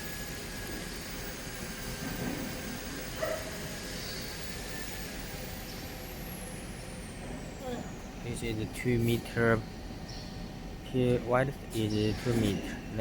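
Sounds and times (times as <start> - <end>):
factory floor background noise: 0.0 - 13.0
faint distant workshop sounds: 0.0 - 13.0.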